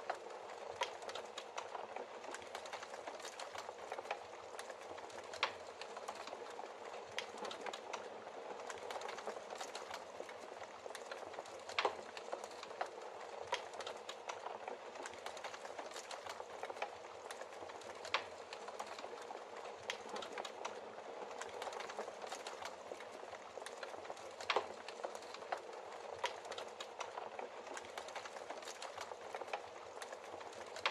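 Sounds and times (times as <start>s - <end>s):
logs burning in a fireplace: 0.0s - 30.9s
fire popping: 0.1s - 30.9s.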